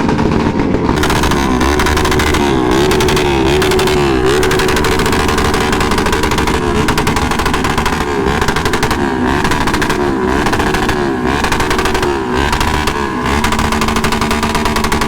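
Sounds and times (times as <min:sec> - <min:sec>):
motorcycle engines running loudly: 0:00.0 - 0:15.0
popping exhaust: 0:00.0 - 0:15.0.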